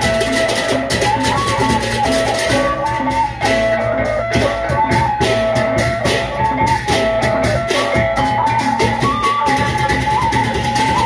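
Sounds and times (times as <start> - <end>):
large barrel drums: 0.0 - 11.0
pitched melody line: 0.0 - 11.0.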